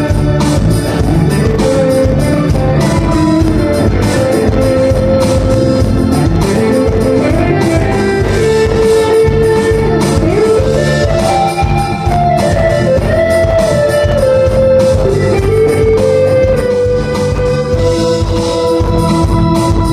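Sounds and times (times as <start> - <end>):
live band playing: 0.0 - 19.9
sliding lead melody: 0.0 - 19.9.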